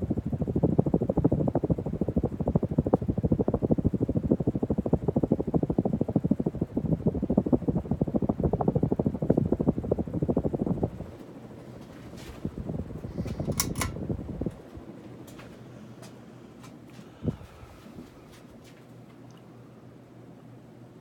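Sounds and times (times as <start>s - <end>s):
ceiling fan airflow buffeting microphone: 0.0s - 21.0s.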